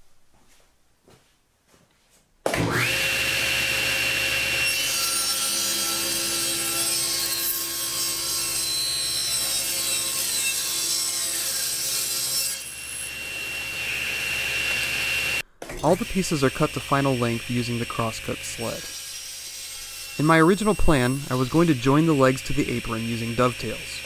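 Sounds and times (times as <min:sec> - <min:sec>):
table saw whine: 0:02.5 - 0:24.0.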